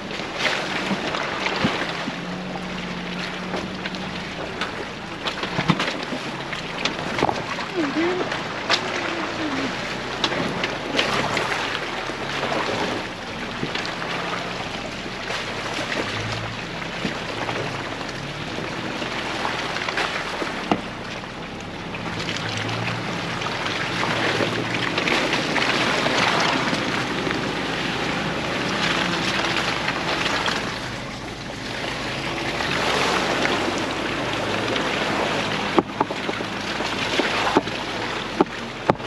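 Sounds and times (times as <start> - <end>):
engine running at low revs: 0.0 - 39.0
tyres churning through mud: 0.0 - 39.0.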